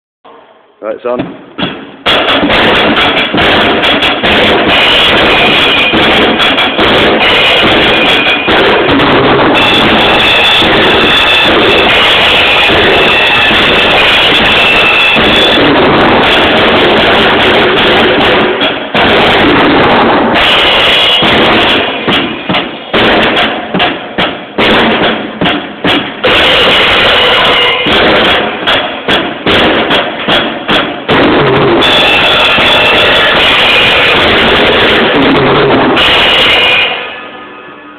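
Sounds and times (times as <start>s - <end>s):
distorted drum kit playing: 1.0s - 37.3s.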